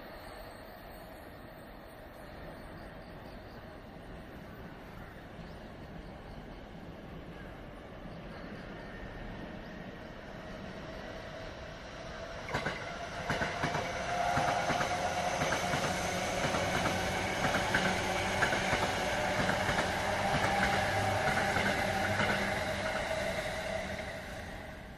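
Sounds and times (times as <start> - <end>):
electric train passing: 0.0 - 24.9
train steady whine: 0.0 - 24.9.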